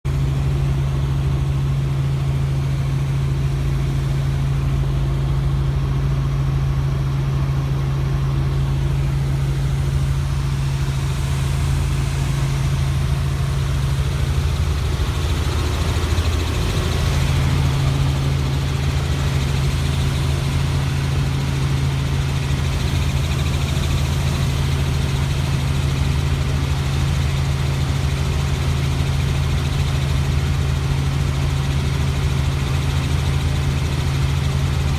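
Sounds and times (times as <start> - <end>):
helicopter running: 0.1 - 34.9.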